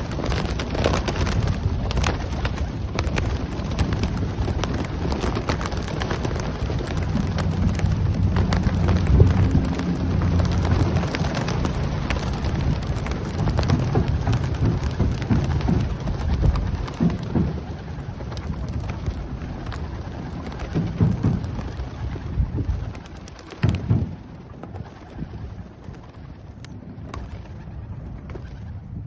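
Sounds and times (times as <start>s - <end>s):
pigeon wingbeats clattering: 0.0s - 29.0s.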